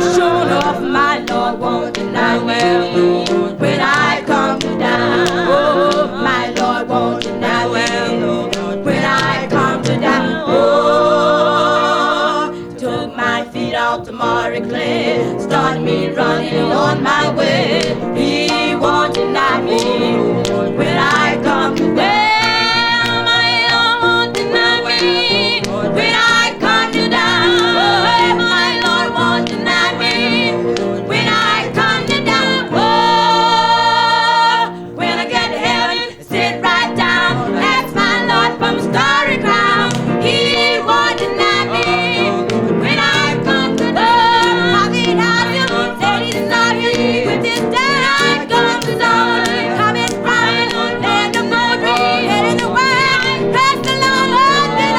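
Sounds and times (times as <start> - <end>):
instrumental accompaniment: 0.0 - 54.9
person singing gospel: 0.0 - 54.9.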